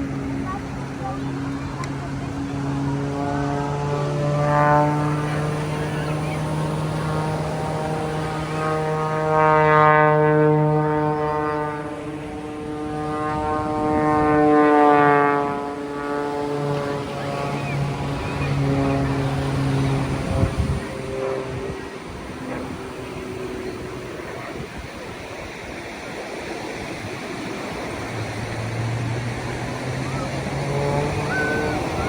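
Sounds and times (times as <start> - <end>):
surf washing: 0.0 - 12.7, 13.6 - 32.0
aircraft engine drone: 0.0 - 32.0.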